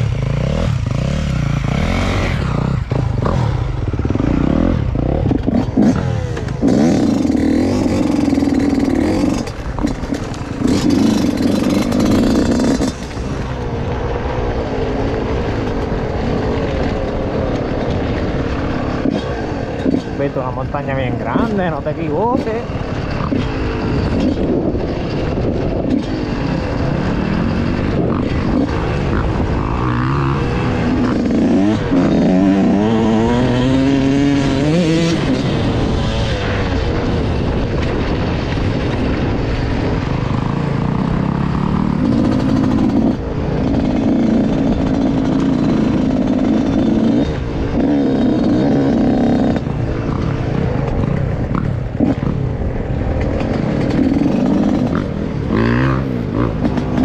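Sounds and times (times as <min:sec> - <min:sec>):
dirt bike engine revving: 0:00.0 - 0:57.0
wind noise: 0:00.0 - 0:57.0.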